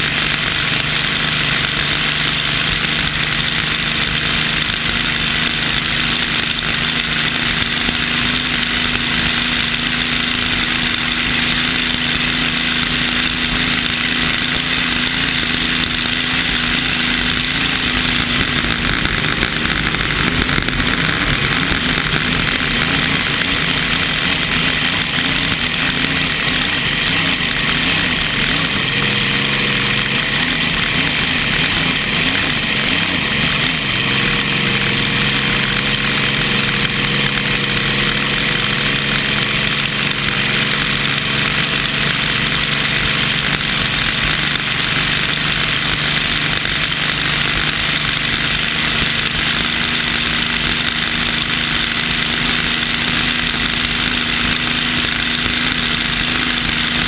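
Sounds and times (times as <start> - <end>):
boat engine running hard: 0.0 - 57.0
water spray: 0.0 - 57.0.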